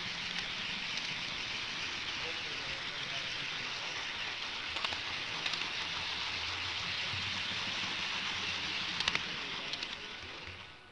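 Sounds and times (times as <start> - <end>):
model train rolling on track: 0.0 - 10.9
wheels clicking over track joints: 0.0 - 10.9.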